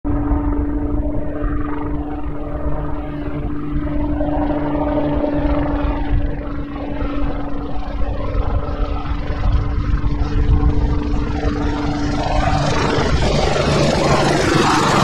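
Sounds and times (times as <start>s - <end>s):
helicopter engine whine: 0.1s - 15.0s
helicopter rotor chop: 0.1s - 15.0s.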